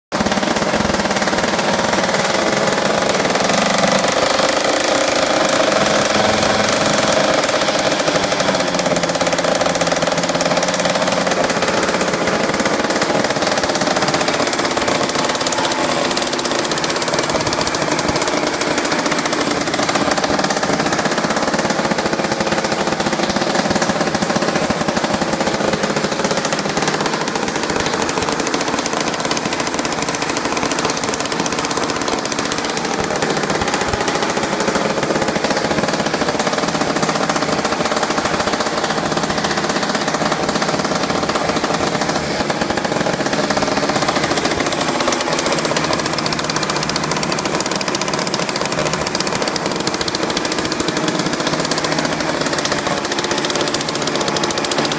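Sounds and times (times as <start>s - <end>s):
chainsaw engine running: 0.0s - 54.9s.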